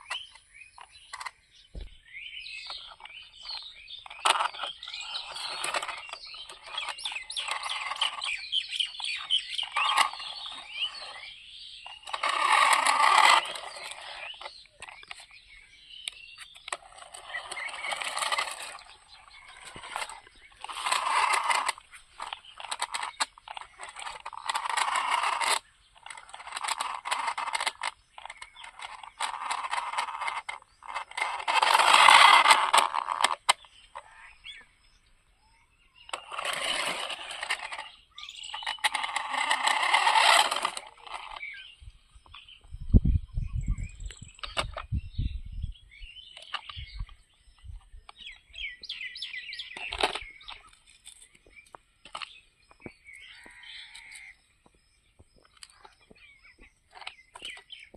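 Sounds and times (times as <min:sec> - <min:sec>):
toy truck motor on rough ground: 0:00.0 - 0:35.0, 0:35.8 - 0:43.0, 0:43.8 - 0:45.1, 0:46.2 - 0:57.9
small birds chirping: 0:00.0 - 0:57.9.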